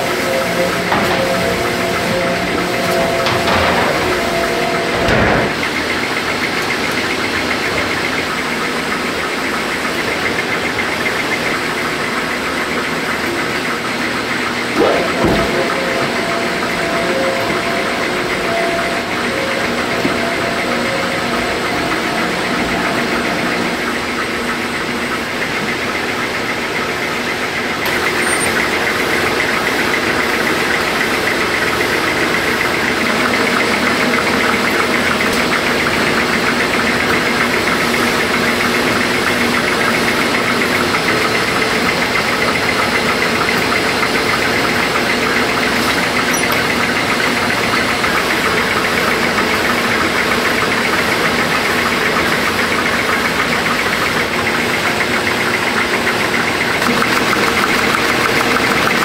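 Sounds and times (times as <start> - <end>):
dough machinery humming and whirring: 0.0 - 59.0.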